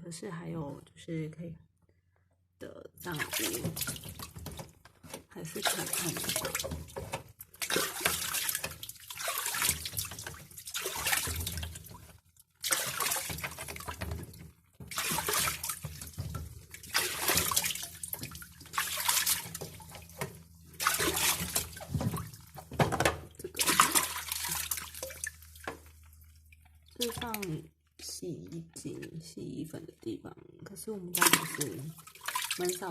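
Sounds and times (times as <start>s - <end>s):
water running and splashing: 3.0s - 27.7s, 31.1s - 32.9s.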